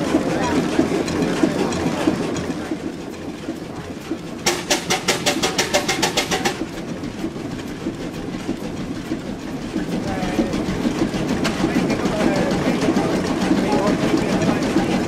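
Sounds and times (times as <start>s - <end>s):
diesel engine low rumble: 0.0s - 15.0s
sharp rhythmic clatter: 0.0s - 15.0s.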